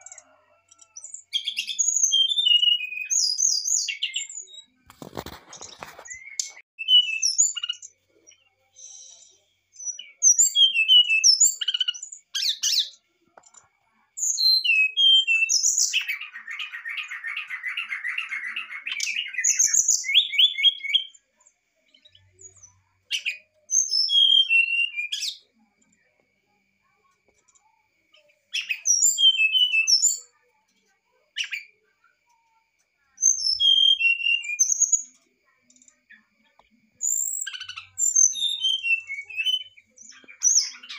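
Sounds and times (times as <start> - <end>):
bird whistled song: 0.0 - 13.0, 14.1 - 25.5, 28.5 - 30.5, 31.2 - 31.8, 33.0 - 36.3, 36.9 - 40.9.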